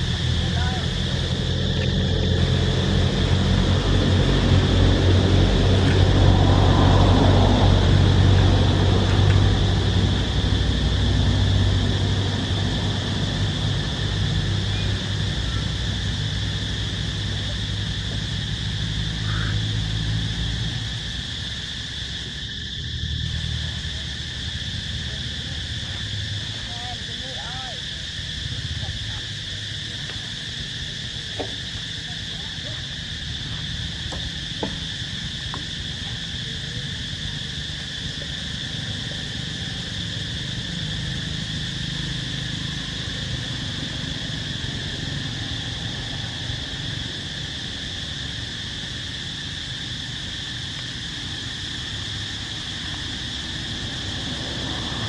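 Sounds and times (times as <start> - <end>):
insect chorus drone: 0.0 - 55.0
low steady rumble: 0.0 - 55.0.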